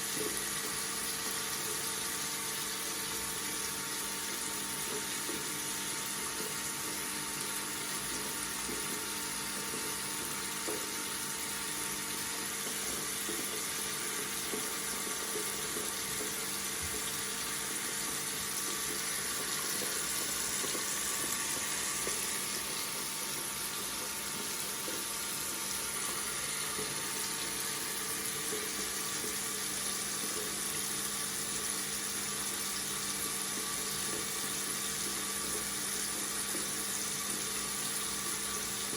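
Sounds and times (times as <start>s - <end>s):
tap water running: 0.0s - 38.9s.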